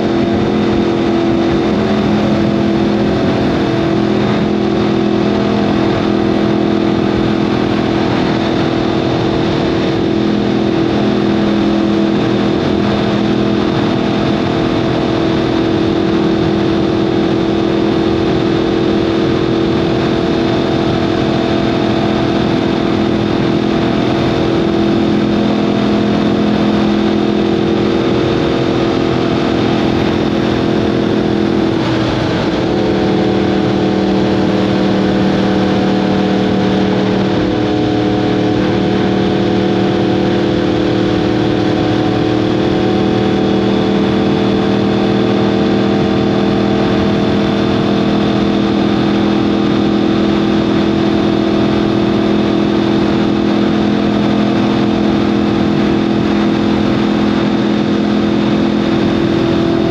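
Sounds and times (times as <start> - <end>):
motorcycle engine running steadily: 0.0 - 59.9
steady rushing noise: 0.0 - 59.9.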